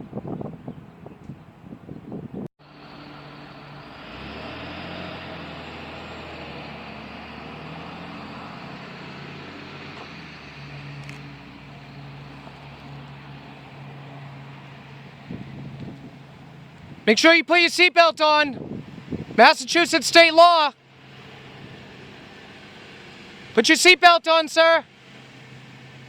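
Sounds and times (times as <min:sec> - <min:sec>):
vehicle engine running: 0:00.0 - 0:17.3, 0:18.6 - 0:26.0.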